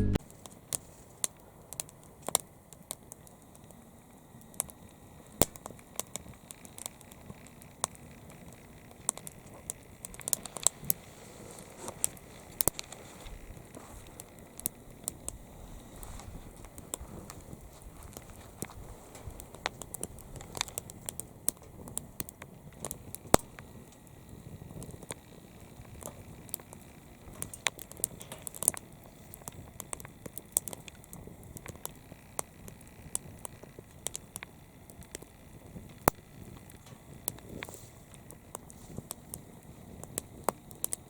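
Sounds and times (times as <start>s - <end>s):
firewood crackling: 0.0s - 41.0s
sharp pops and snaps of fire: 0.1s - 41.0s.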